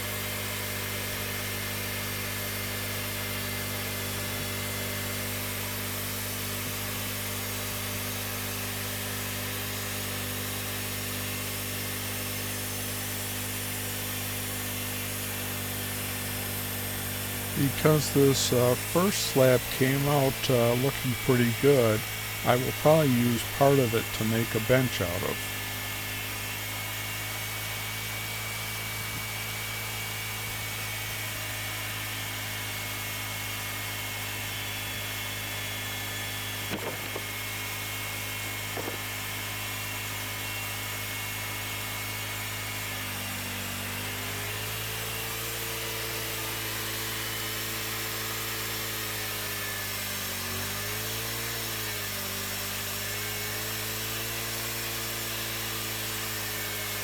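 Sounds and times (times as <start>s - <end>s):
band sawmill cutting log: 0.1s - 34.6s, 35.2s - 57.0s.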